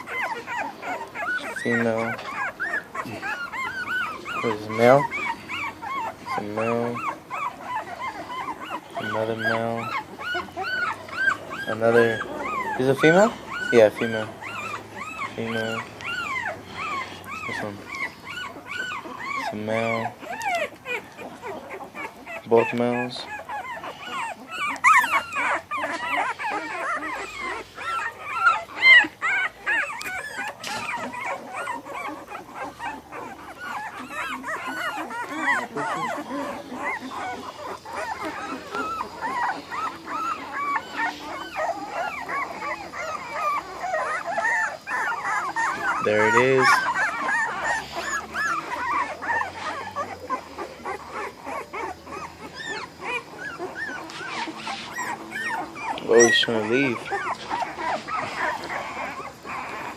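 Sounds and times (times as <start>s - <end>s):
puppies whimpering and yelping: 0.0s - 59.9s.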